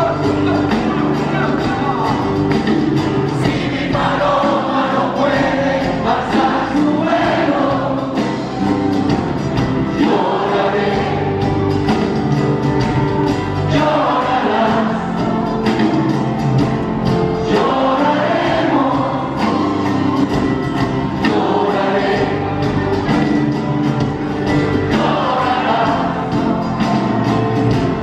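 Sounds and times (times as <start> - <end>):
live folk-rock band: 0.0 - 28.0
voices singing together: 3.2 - 12.4, 13.2 - 16.2, 17.3 - 28.0.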